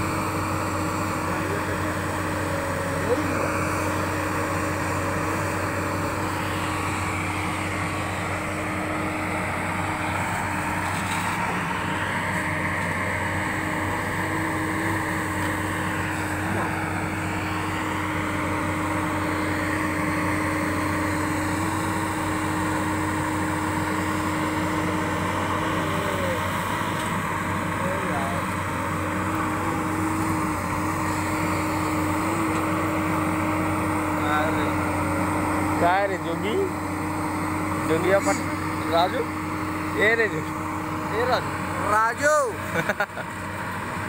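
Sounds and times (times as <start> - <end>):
excavator diesel engine running: 0.0 - 44.0
hydraulic whine: 0.0 - 44.0.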